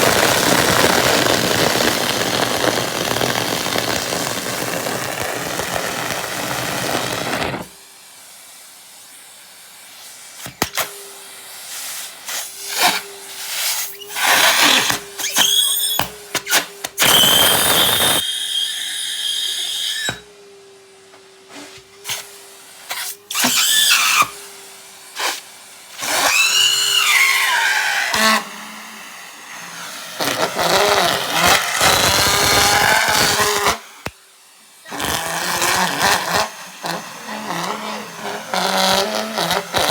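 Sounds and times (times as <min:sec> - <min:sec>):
vacuum nozzle rushes and whistles: 0:00.0 - 0:20.5, 0:21.5 - 0:39.9
vacuum cleaner motor: 0:00.0 - 0:39.9.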